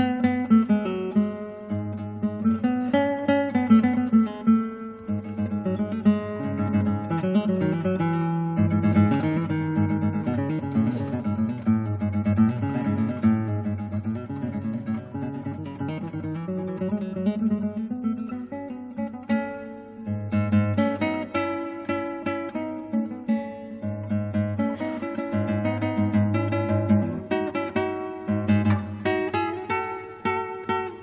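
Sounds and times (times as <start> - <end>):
flamenco-style acoustic guitar: 0.0 - 31.0.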